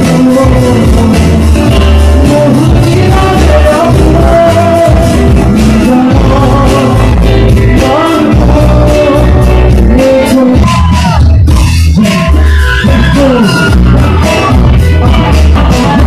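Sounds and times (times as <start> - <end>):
man singing into a microphone: 0.0 - 16.0
music with heavy bass and beat: 0.0 - 16.0.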